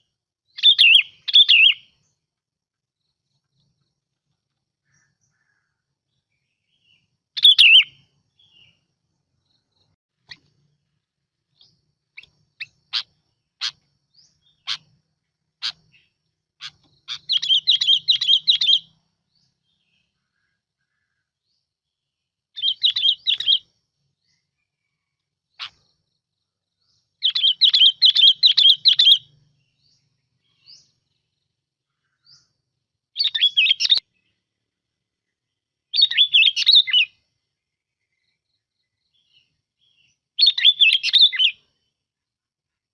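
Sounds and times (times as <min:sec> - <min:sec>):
bird chirping and warbling: 0:00.0 - 0:02.2, 0:04.8 - 0:21.7, 0:22.6 - 0:26.1, 0:26.7 - 0:34.5, 0:35.9 - 0:37.2, 0:38.0 - 0:41.8.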